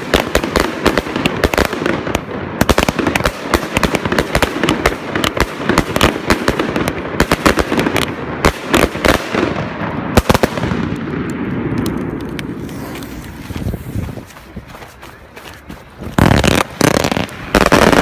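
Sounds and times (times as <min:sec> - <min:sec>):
fireworks bangs and crackling: 0:00.0 - 0:14.6, 0:15.8 - 0:18.0.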